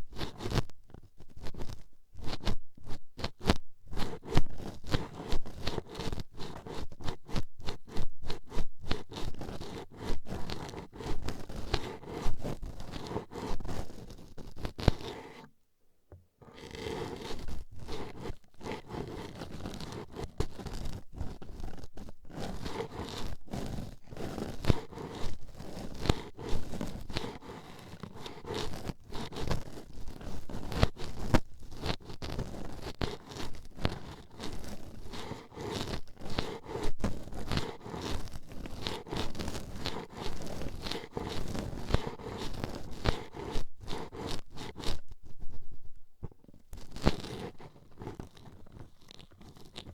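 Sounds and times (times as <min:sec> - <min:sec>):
toothpicks scraping a microphone: 0:00.0 - 0:15.5, 0:16.4 - 0:49.9.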